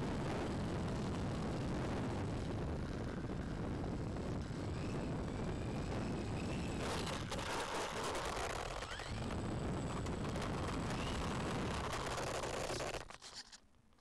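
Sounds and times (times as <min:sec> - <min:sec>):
plane rumbling on rough tarmac: 0:00.0 - 0:13.6.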